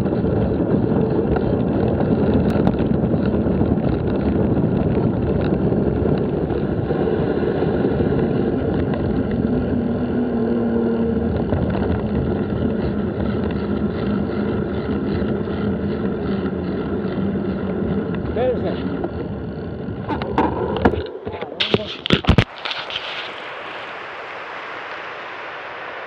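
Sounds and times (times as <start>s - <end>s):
bicycle rolling noise: 0.0s - 26.0s
wind rumble on microphone: 0.0s - 26.0s.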